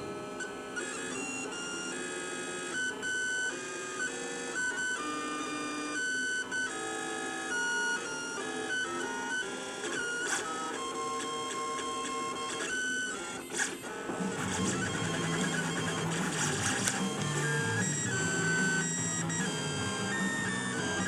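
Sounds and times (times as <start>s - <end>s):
printer stepper motors whining: 0.0s - 21.0s.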